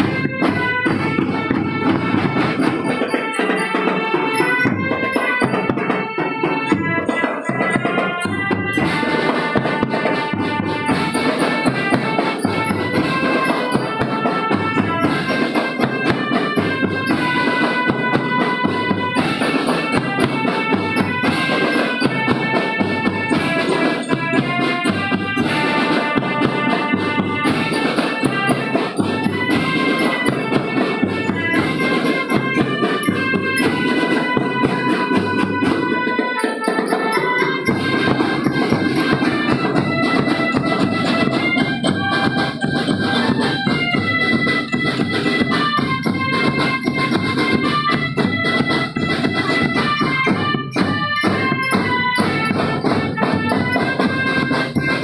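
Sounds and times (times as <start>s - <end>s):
drum band playing: 0.0s - 55.0s
melody of held notes: 0.0s - 55.0s.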